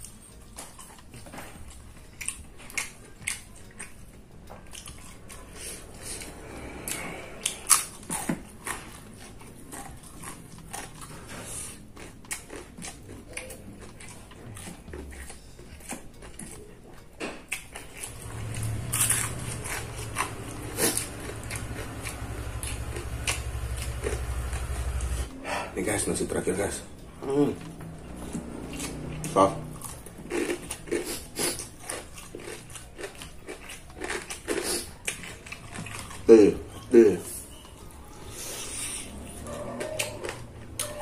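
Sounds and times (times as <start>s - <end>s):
person chewing and smacking: 0.0s - 25.3s, 27.2s - 41.0s.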